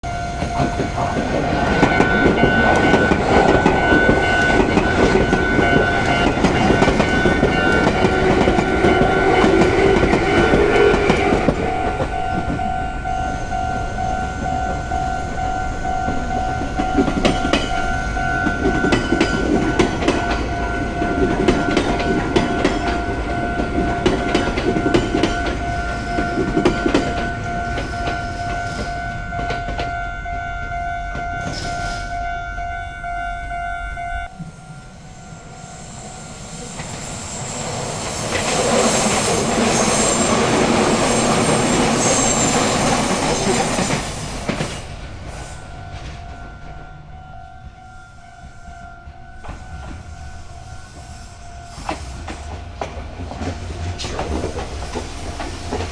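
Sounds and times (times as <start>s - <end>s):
level crossing warning bell ringing: 0.0s - 53.6s
train wheels clattering and rumbling: 0.3s - 12.9s, 15.8s - 30.0s, 36.3s - 55.9s.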